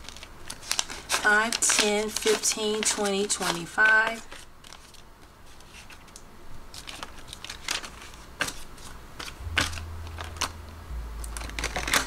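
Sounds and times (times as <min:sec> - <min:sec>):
banknotes rustling: 0:00.0 - 0:09.8.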